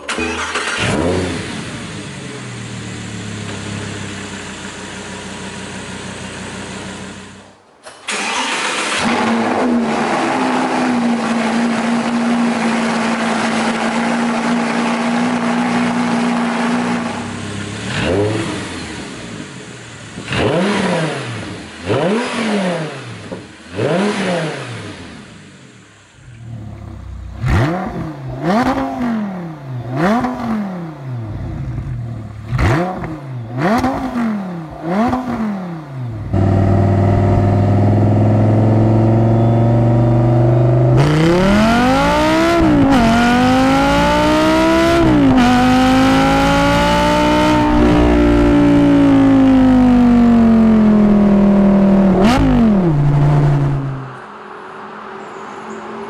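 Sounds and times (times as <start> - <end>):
engine revving: 0.0 - 4.2, 5.4 - 25.6, 26.2 - 54.2
car engine starting: 0.0 - 54.3.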